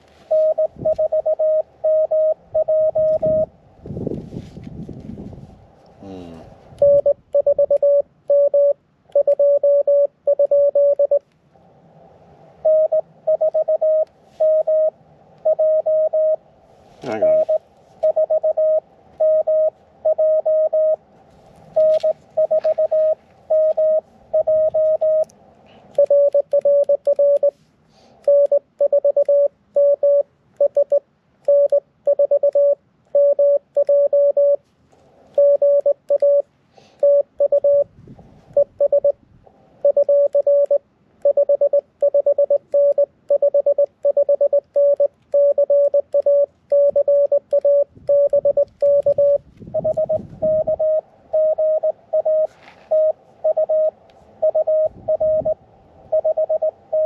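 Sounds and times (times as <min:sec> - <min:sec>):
morse code tones: 0:00.2 - 0:03.6, 0:06.8 - 0:11.2, 0:12.6 - 0:16.4, 0:17.1 - 0:21.0, 0:21.7 - 0:25.3, 0:25.9 - 0:27.6, 0:28.2 - 0:34.6, 0:35.3 - 0:37.9, 0:38.5 - 0:39.2, 0:39.8 - 0:57.0.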